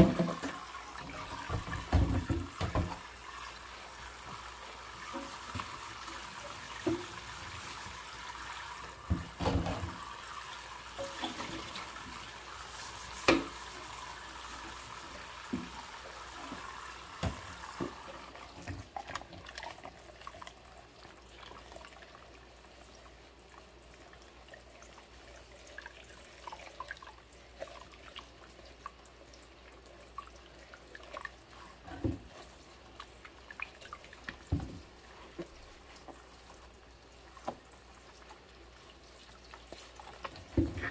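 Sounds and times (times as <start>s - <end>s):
tap water running into sink: 0.0s - 40.9s.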